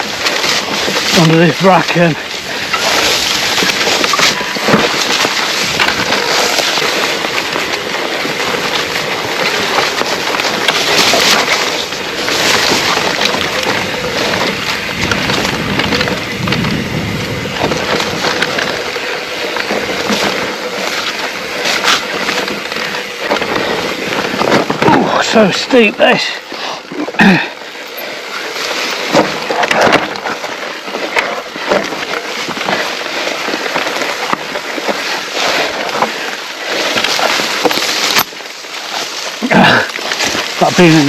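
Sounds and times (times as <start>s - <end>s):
bracken swishing and crackling: 0.0s - 41.0s
tyre and trail noise: 0.0s - 41.0s.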